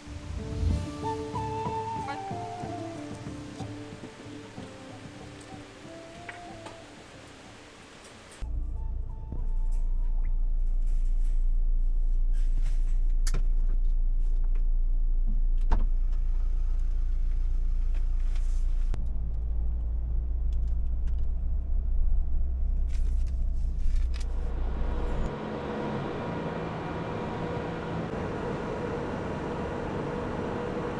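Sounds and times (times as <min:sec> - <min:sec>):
road vehicle rumbling: 0:00.0 - 0:30.9.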